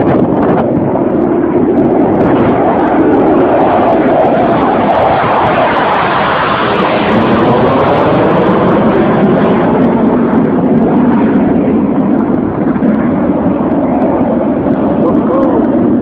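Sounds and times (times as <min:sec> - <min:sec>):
fighter jet passing by: 0:00.0 - 0:16.0.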